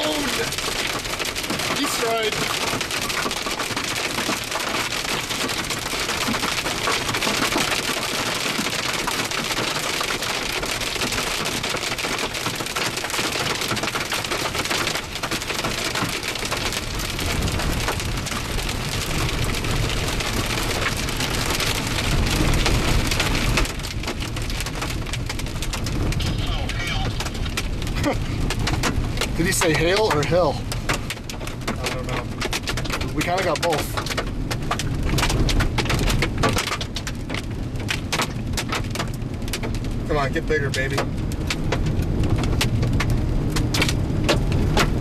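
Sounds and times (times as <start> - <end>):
rain and hail pelting: 0.0 - 45.0.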